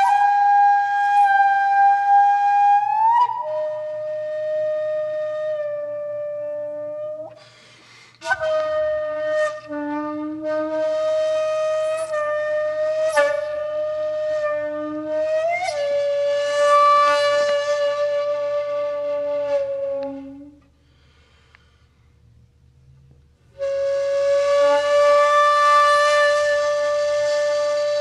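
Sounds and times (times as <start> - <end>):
flute-like wind instrument: 0.0 - 7.6, 8.2 - 20.8, 23.6 - 28.0.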